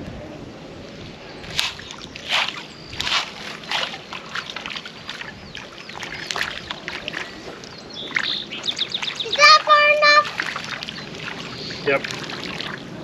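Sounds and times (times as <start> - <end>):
fish splashing on water: 1.5 - 13.0.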